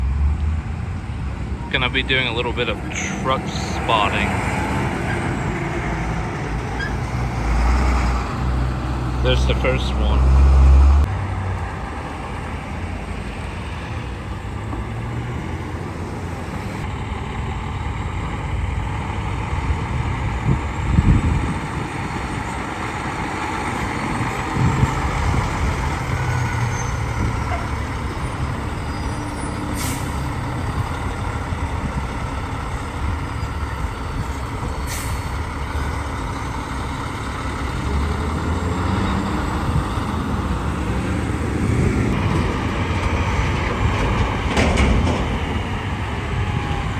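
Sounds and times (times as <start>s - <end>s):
road traffic with heavy trucks: 0.0s - 46.9s.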